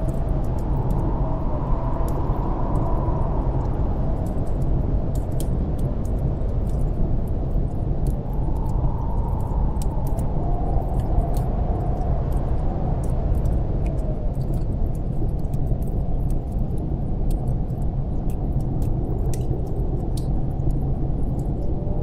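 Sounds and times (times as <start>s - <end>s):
howling snowstorm wind: 0.0s - 22.0s
wood fire crackling: 0.0s - 22.0s.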